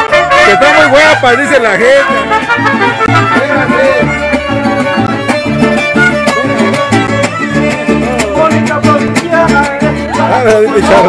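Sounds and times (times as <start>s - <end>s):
violins with vibrato: 0.0s - 11.0s
bouncing bass beat: 2.0s - 11.0s
strummed chords: 2.0s - 11.0s.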